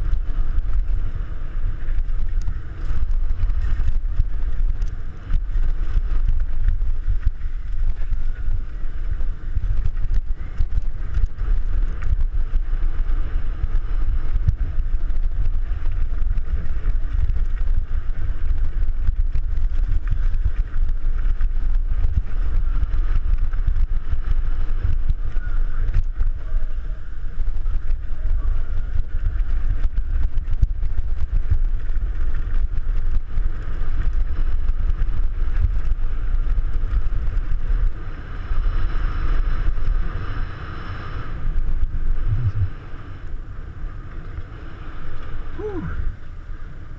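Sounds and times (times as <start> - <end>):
bike rattling over rough ground: 0.0 - 40.3
wind on camera microphone: 0.0 - 46.9.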